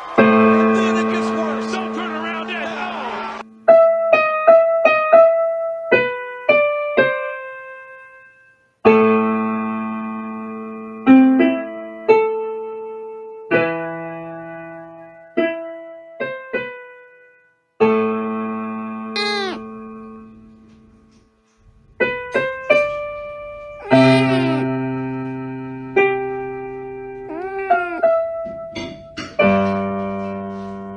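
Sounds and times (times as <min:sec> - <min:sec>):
slow piano music: 0:03.4 - 0:20.3, 0:22.0 - 0:30.9.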